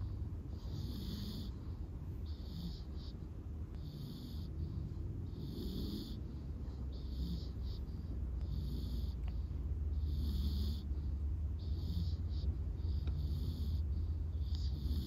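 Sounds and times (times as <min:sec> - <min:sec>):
puppy snoring: 0:00.0 - 0:15.0.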